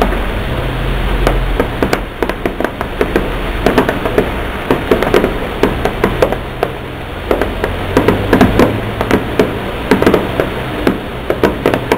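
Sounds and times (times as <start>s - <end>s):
distant fireworks popping and banging: 0.0s - 11.9s
steady hiss: 0.0s - 11.9s.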